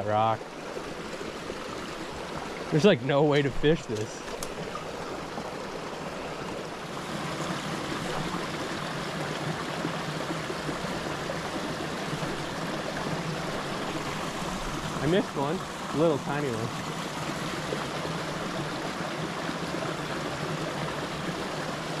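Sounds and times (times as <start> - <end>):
brook babbling over rocks: 0.0 - 22.0.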